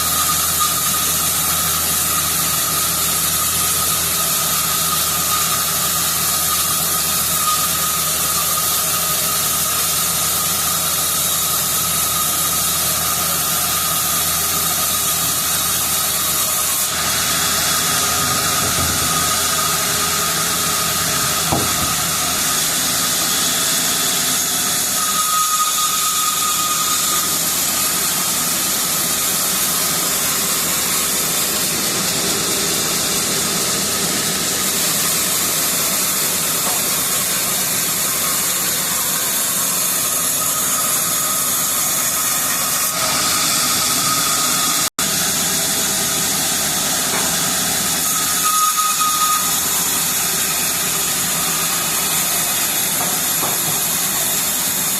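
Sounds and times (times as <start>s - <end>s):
saw cutting a log: 0.0s - 54.9s.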